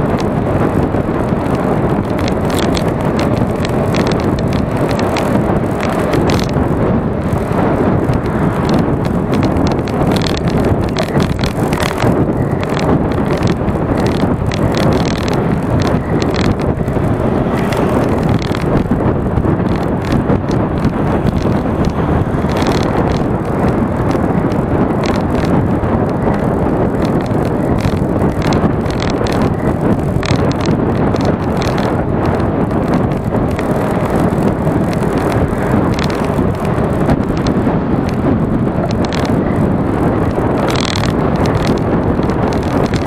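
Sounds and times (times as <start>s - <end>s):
small clicks and rattles: 0.0s - 43.0s
tyre noise on asphalt: 0.0s - 43.0s
wind roaring on microphone: 0.0s - 43.0s.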